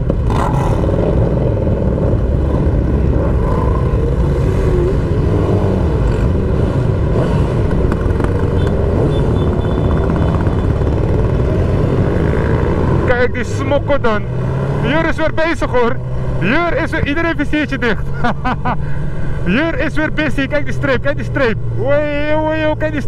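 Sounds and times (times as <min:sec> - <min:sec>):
motorcycle engines running: 0:00.0 - 0:23.0
wind and road noise rumble: 0:00.0 - 0:23.0.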